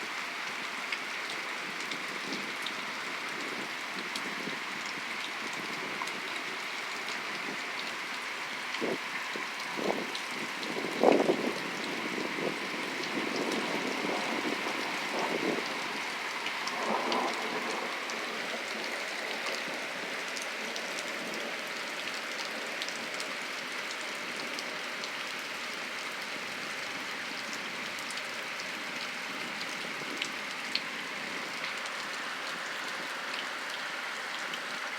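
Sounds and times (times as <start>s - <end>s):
steady rain hissing: 0.0s - 34.9s.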